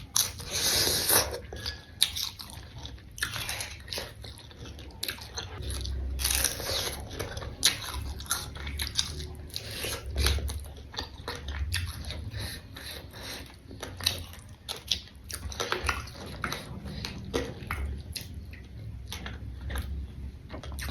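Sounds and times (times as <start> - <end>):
wet chewing and crunching: 0.0 - 20.9.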